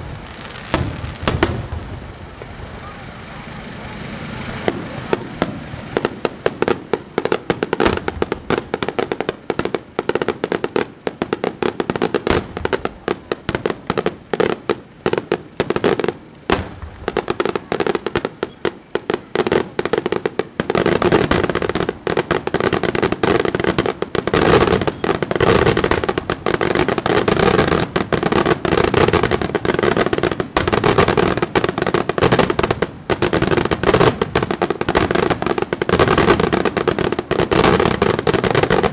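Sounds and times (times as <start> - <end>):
crackling explosions: 0.0 - 3.0, 3.7 - 38.9.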